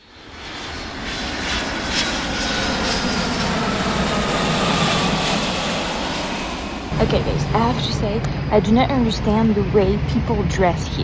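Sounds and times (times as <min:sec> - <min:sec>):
jet aircraft passing: 0:00.0 - 0:11.0.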